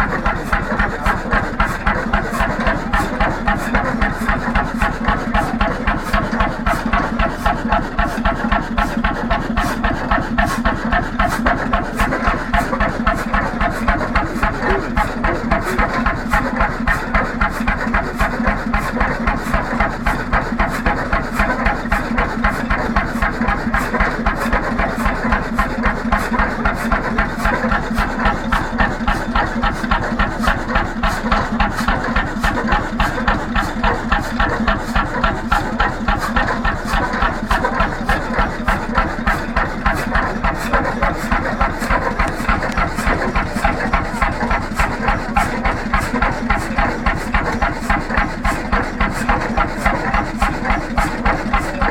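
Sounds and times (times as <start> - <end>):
single-cylinder engine idling: 0.0 - 51.9.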